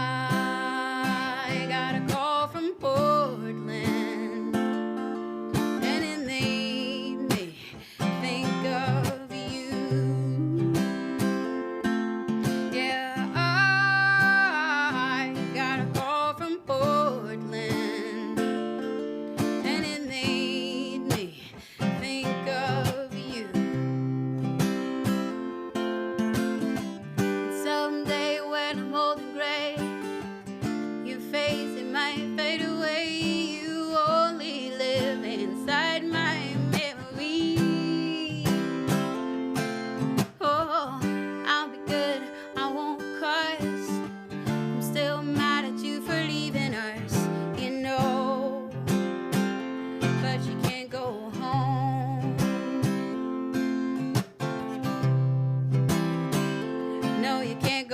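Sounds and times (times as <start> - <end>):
acoustic guitar playing: 0.0 - 57.9.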